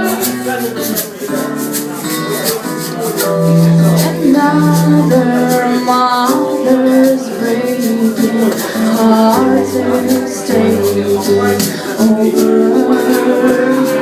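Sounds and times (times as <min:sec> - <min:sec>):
held melodic notes: 0:00.0 - 0:14.0
rattling percussion beat: 0:00.0 - 0:14.0.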